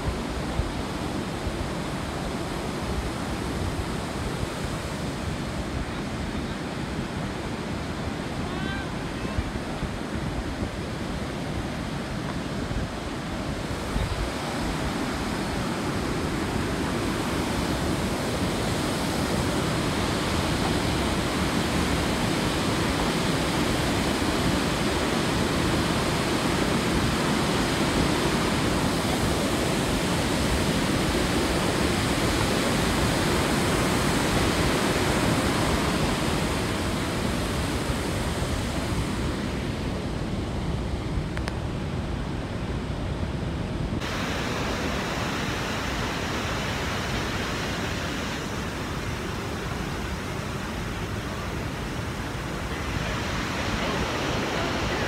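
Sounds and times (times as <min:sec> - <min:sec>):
river rapids rushing: 0:00.0 - 0:40.8, 0:43.9 - 0:55.0.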